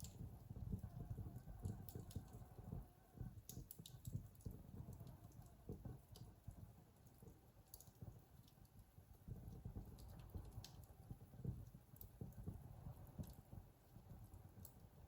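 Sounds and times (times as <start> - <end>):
fire popping: 0.0 - 15.0
low rumble of burning: 0.0 - 15.0
wood fire crackling: 0.0 - 15.0.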